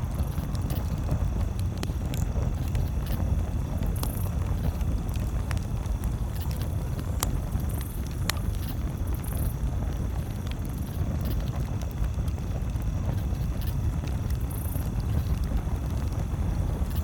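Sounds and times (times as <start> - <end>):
campfire crackling: 0.0 - 17.0
fire popping: 0.0 - 17.0.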